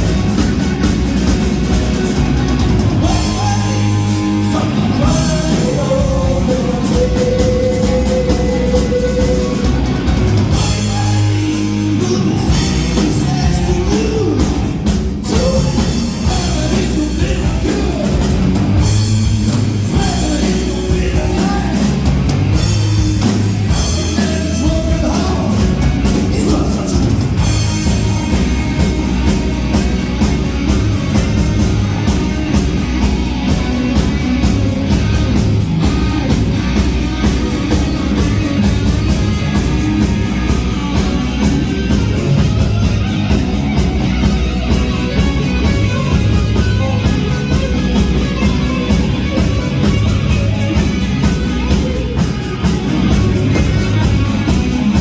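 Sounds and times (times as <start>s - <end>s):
driving drum beat: 0.0s - 55.0s
hard rock band playing live: 0.0s - 55.0s.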